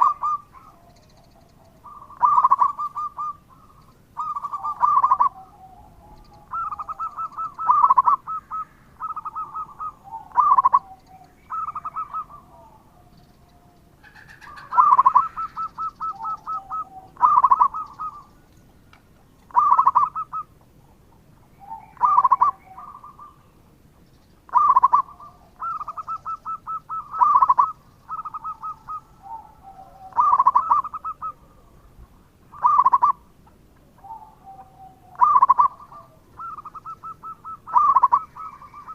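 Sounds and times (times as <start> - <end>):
dove cooing: 0.0 - 18.8, 19.5 - 23.7, 24.5 - 38.9.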